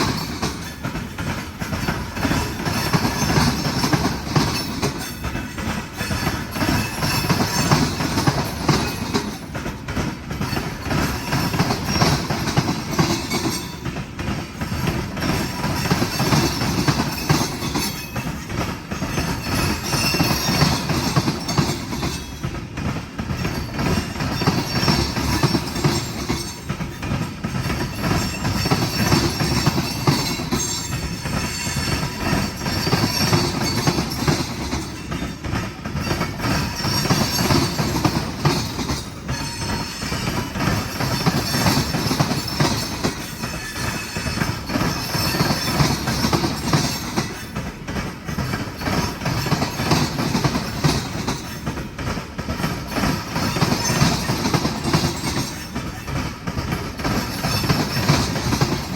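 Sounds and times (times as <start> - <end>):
train wheels clacking over rail joints: 0.0 - 58.9.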